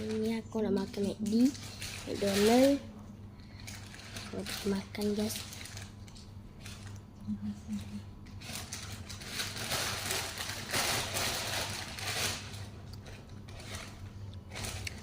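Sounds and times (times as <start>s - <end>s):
crunchy eating noises: 0.0s - 15.0s.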